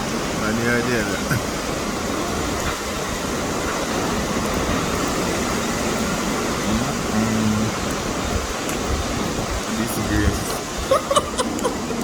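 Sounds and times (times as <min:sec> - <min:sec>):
strong wind rushing: 0:01.0 - 0:12.0.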